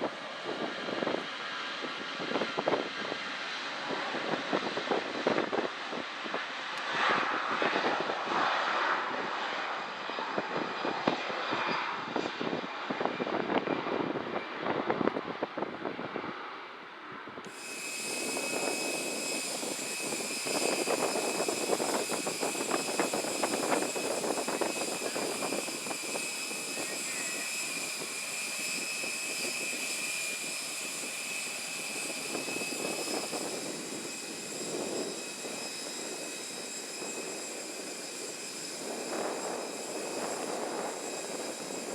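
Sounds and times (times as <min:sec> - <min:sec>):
jet engines at takeoff: 0:00.0 - 0:41.9
parked jet high-pitched whine: 0:00.0 - 0:41.9.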